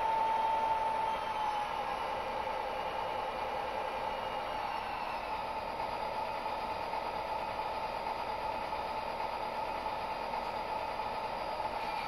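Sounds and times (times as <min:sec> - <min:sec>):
diesel engine sound from small speaker: 0:00.0 - 0:12.0.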